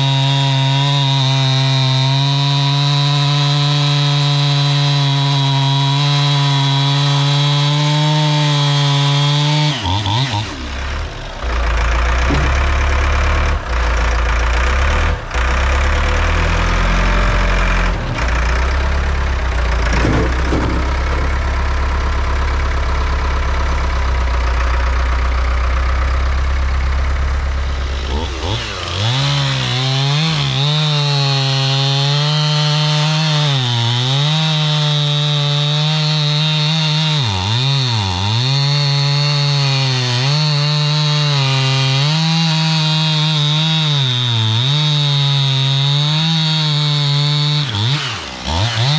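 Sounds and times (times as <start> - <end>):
chainsaw cutting a log: 0.0 - 48.9.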